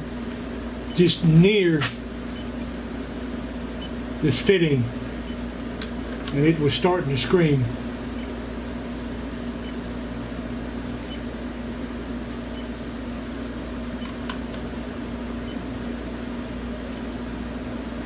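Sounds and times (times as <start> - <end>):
low electronic hum: 0.0 - 18.0.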